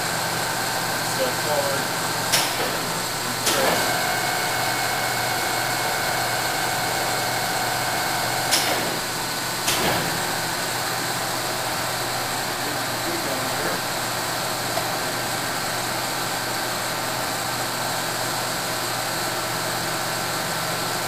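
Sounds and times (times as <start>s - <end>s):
lathe motor humming and whining: 0.0s - 21.0s.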